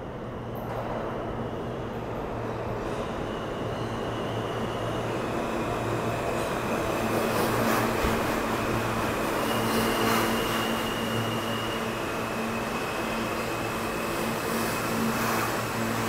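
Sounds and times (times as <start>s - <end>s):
subway train rumble: 0.0s - 16.0s.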